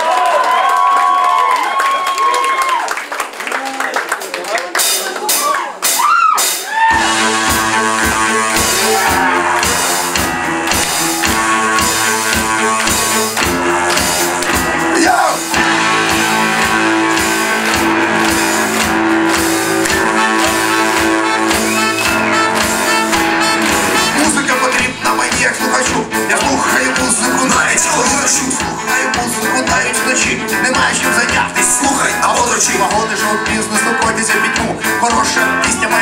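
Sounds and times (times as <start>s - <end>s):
live rock band playing: 4.7s - 36.0s.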